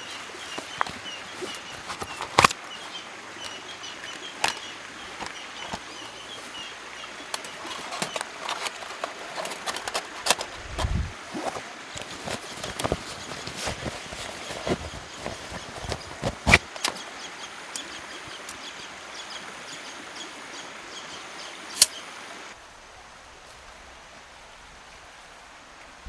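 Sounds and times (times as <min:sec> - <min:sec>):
river water hissing: 0:00.0 - 0:26.0.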